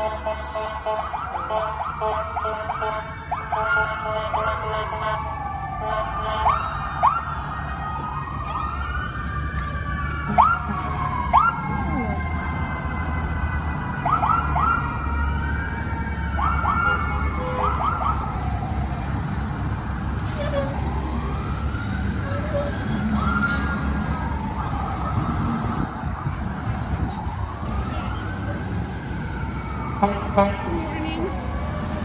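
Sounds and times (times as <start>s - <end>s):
sirens wailing: 0.0s - 32.0s
siren whoops: 0.4s - 19.0s, 20.3s - 32.0s.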